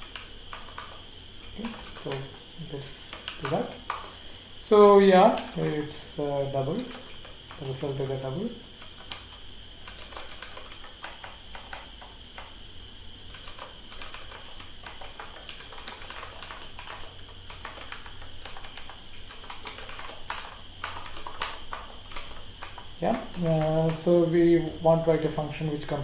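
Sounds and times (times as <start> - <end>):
keyboard keystrokes clicking: 0.0 - 12.6, 13.3 - 26.0
faint high-pitched whine: 0.0 - 26.0.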